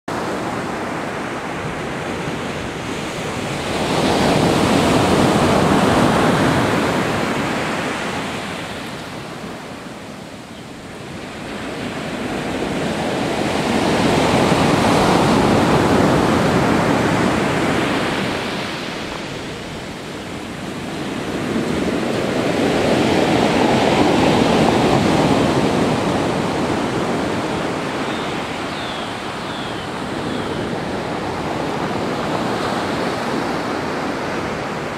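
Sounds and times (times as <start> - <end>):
waves breaking on the shore: 0.1 - 34.9.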